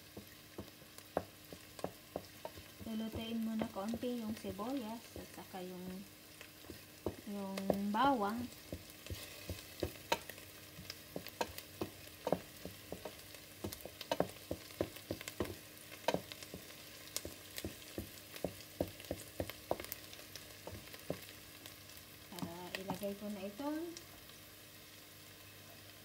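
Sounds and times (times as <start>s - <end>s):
wooden spoon tapping and scraping pan: 0.0s - 5.6s, 6.4s - 24.1s
onion sizzling in oil: 0.0s - 26.0s.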